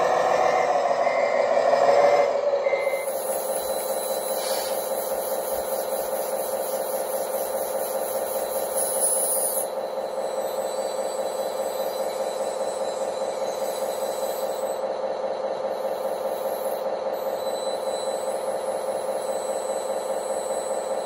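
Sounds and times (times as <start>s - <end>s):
electric hum of loader crane: 0.0s - 21.0s.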